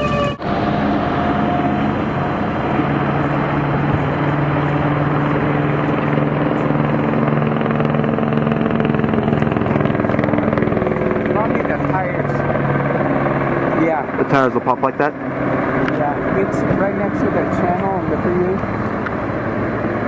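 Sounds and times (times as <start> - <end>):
helicopter flying overhead: 0.0 - 20.0.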